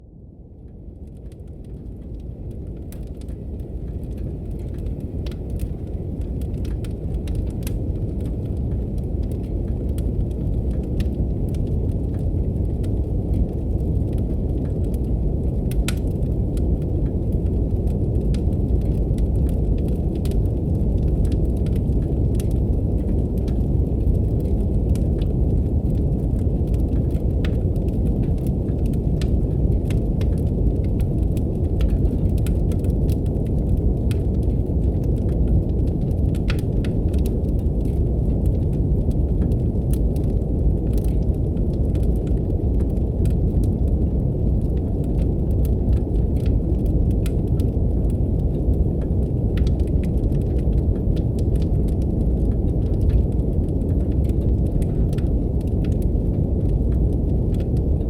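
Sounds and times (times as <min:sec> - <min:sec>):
brown noise rumble: 0:00.0 - 0:58.0
wood fire crackling: 0:00.0 - 0:58.0.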